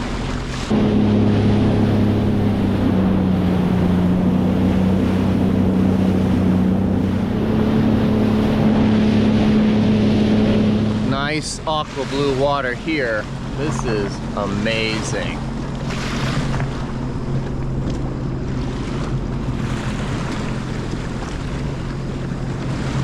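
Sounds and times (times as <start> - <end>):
rushing water: 0.0 - 23.0
watercraft engine running: 0.0 - 23.0.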